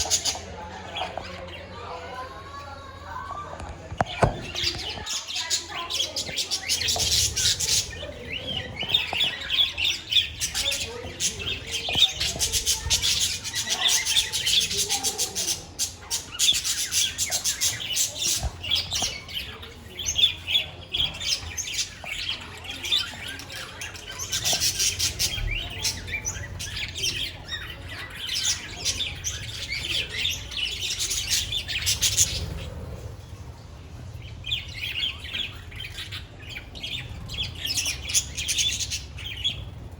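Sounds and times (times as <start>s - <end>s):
budgerigars chattering: 4.4s - 33.0s, 34.4s - 39.9s.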